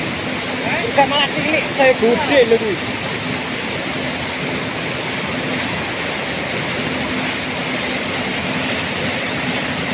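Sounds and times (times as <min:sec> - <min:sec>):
water rushing over rocks: 0:00.0 - 0:09.9.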